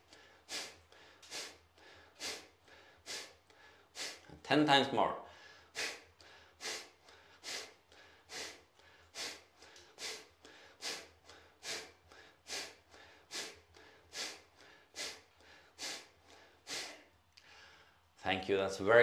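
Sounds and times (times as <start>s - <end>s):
man exhaling sharply through nose: 0.0s - 4.4s, 5.3s - 18.0s.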